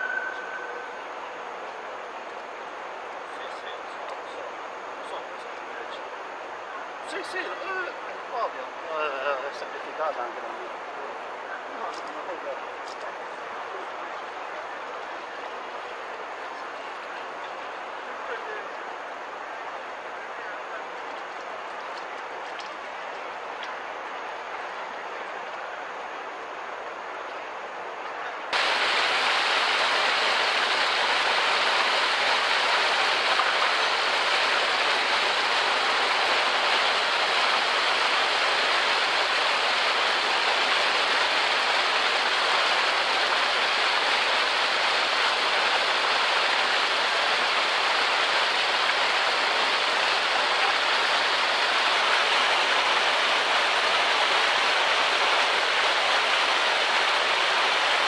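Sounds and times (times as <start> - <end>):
fountain water splashing into basin: 0.0 - 27.2, 28.5 - 58.0.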